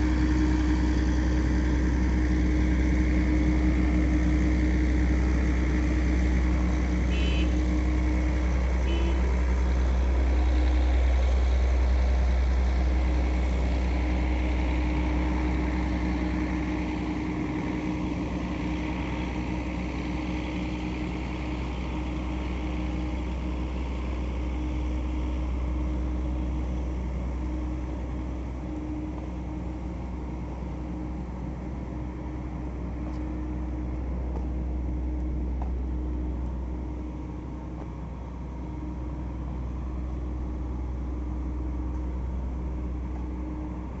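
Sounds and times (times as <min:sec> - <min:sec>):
faint droning tone: 0:00.0 - 0:44.0
low engine-like rumble: 0:00.0 - 0:44.0.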